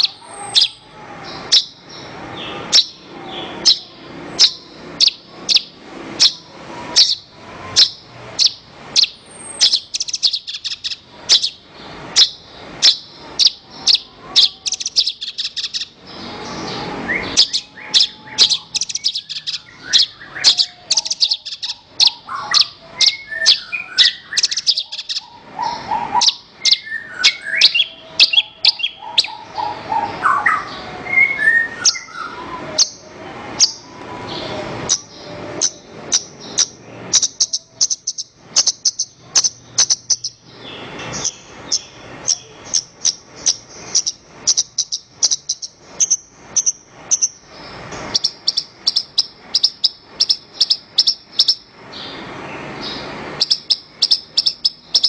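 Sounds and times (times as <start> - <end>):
bird singing sharp high chirps: 0.0 - 55.0.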